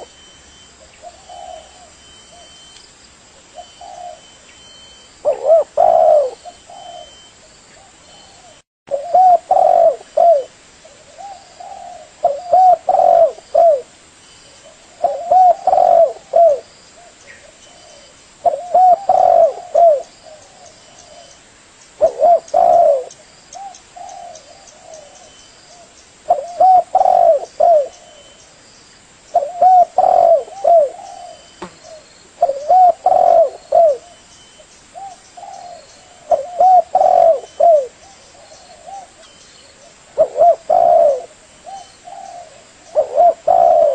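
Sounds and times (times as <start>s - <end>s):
dove cooing: 0.0s - 2.6s, 3.4s - 13.9s, 14.6s - 21.4s, 22.0s - 28.4s, 29.4s - 34.3s, 35.0s - 43.9s.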